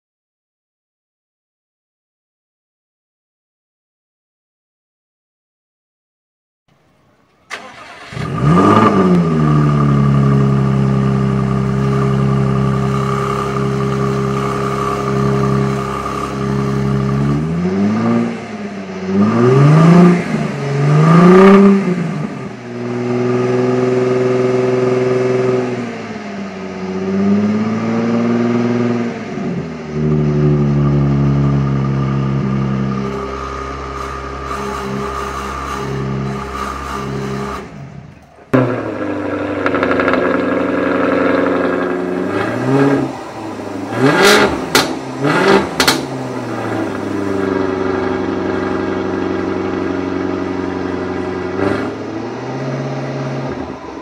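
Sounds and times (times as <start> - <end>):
car engine revving and idling: 7.5 - 54.0.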